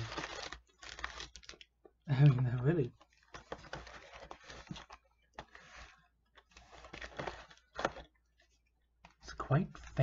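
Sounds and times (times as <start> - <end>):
wrapper crinkling and rustling: 0.0 - 8.2.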